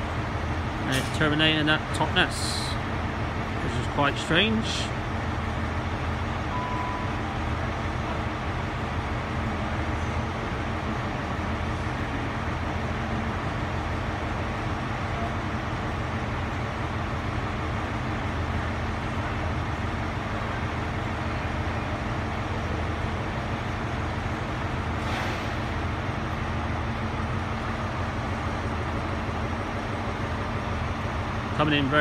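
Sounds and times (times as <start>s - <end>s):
diesel train engines rumbling: 0.0s - 32.0s.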